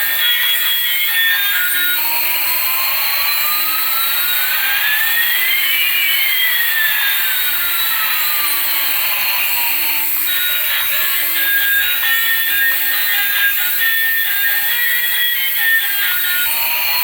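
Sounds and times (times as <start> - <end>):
gliding whistles: 0.0 - 17.0
toy jet engine hiss: 0.0 - 17.0.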